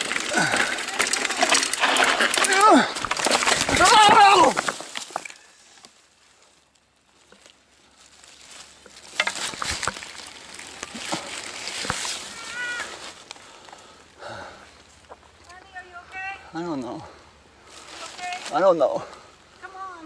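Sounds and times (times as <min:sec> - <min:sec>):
dry leaves and twigs rustling: 0:00.0 - 0:20.0.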